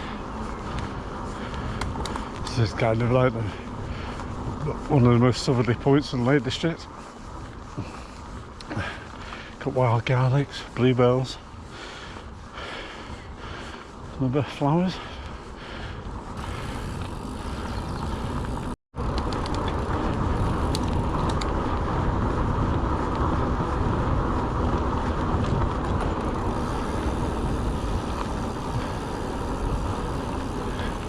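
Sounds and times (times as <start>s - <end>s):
bike tyres rolling: 0.0s - 31.0s
wind buffeting microphone: 0.0s - 31.0s.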